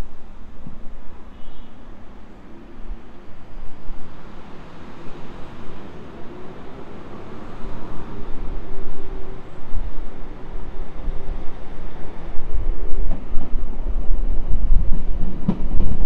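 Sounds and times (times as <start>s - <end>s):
train engine drone: 0.0s - 16.0s.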